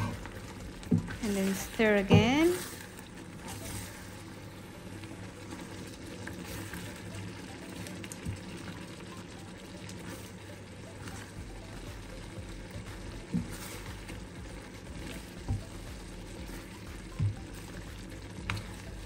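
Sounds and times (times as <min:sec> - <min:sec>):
sauce simmering and bubbling: 0:00.0 - 0:19.0
spatula stirring sauce: 0:00.0 - 0:19.0.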